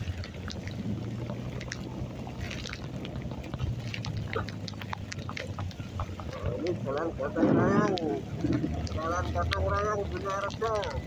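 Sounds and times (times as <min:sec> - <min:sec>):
heavy rain and tyre noise: 0:00.0 - 0:11.0
motorcycle engine hum: 0:00.0 - 0:11.0
raindrops ticking: 0:00.0 - 0:11.0.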